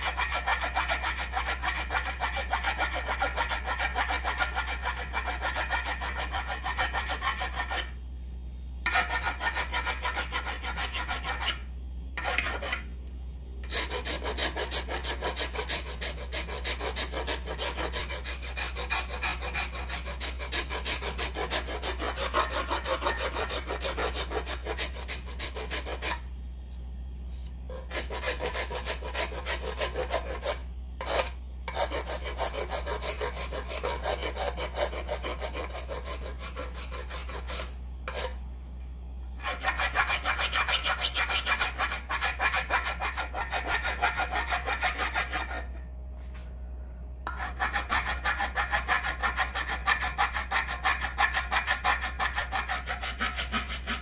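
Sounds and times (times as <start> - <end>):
hand rasp filing wood: 0.0 - 8.0, 8.9 - 12.8, 13.6 - 26.2, 27.7 - 38.4, 39.4 - 45.7, 47.3 - 54.0.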